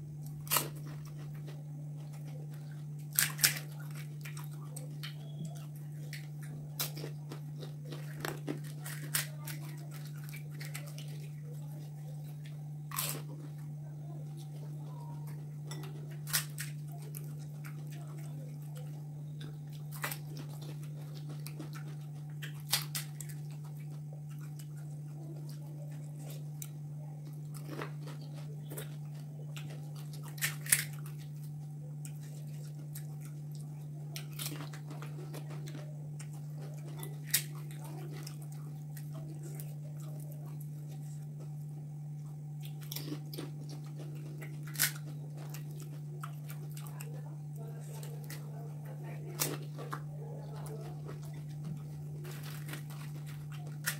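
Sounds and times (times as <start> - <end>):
crunching and chewing: 0.0 - 53.9.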